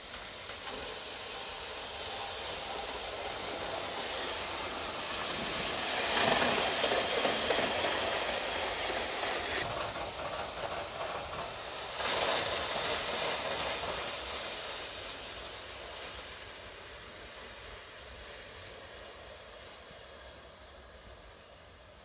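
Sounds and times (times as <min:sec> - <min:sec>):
wheels running on rails: 0:00.0 - 0:20.2
model steam locomotive exhaust: 0:00.0 - 0:22.0.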